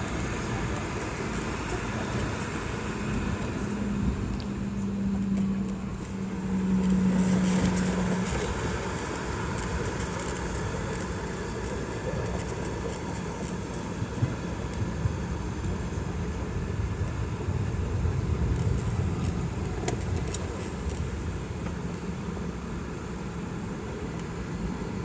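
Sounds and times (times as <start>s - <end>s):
airplane engine and cabin rumble: 0.0s - 25.0s.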